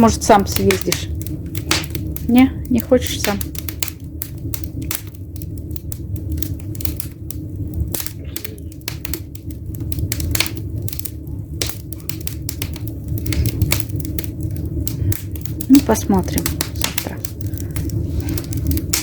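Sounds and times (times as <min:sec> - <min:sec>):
firewood crackling in fireplace: 0:00.0 - 0:19.0.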